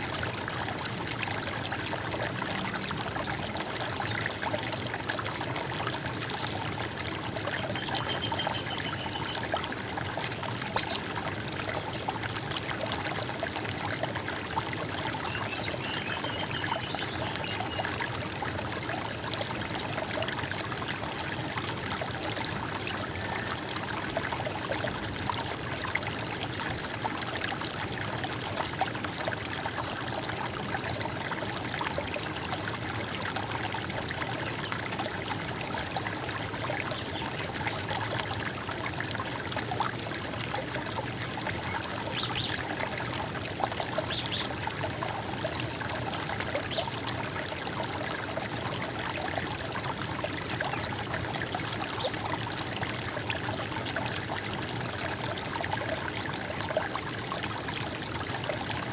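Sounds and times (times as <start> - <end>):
stream water gurgling: 0.0 - 58.9.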